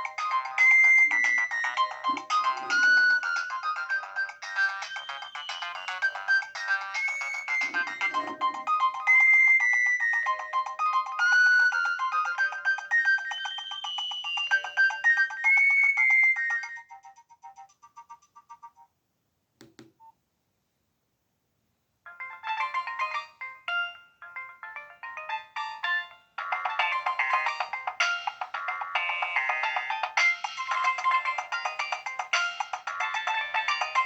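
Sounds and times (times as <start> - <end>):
polyphonic ringtone melody: 0.0 - 15.4, 22.1 - 34.0.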